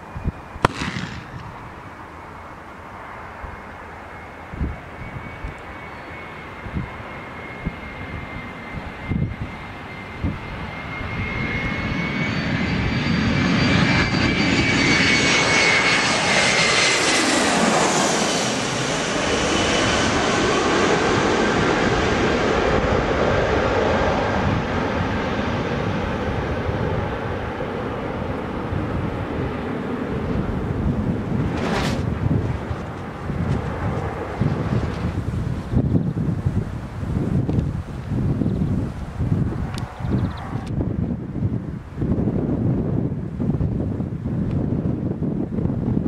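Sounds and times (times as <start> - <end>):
jet plane passing overhead: 0.0 - 46.0.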